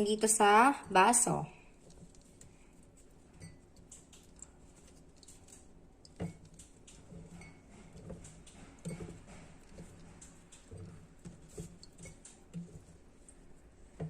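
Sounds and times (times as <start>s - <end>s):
light clicks and taps: 1.8s - 14.0s.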